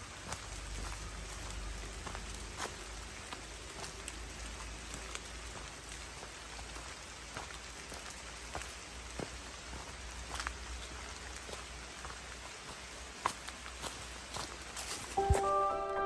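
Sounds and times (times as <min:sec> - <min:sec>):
raindrops ticking close by: 0:00.0 - 0:14.8
light rain falling: 0:00.0 - 0:16.0.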